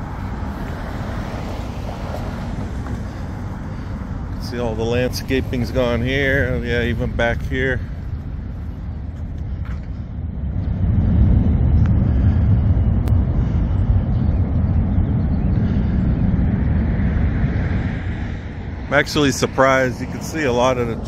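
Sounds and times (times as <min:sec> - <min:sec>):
low rumble of road traffic: 0:00.0 - 0:21.0.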